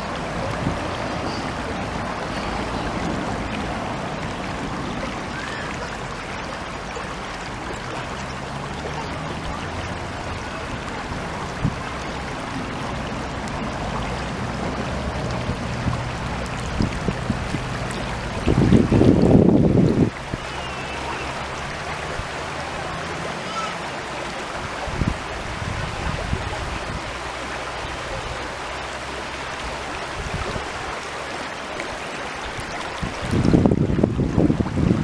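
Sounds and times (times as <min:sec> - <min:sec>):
stream water rushing over rocks: 0:00.0 - 0:35.0.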